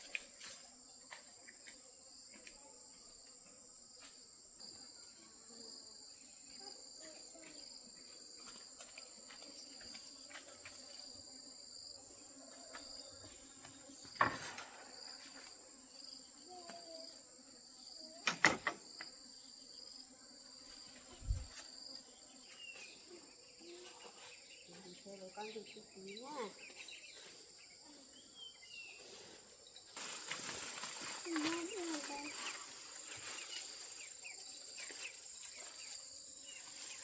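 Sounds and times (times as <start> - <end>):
insects chirping: 3.1 - 37.0.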